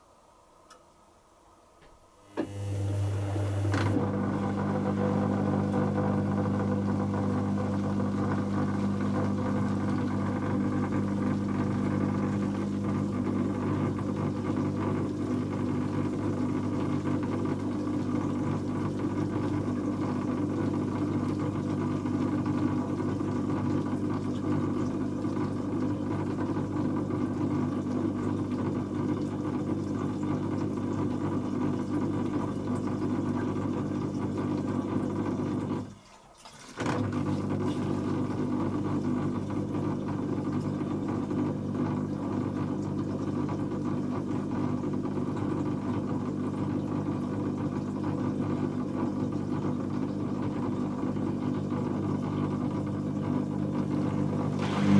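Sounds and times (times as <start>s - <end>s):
washing machine motor hum: 1.6s - 54.9s.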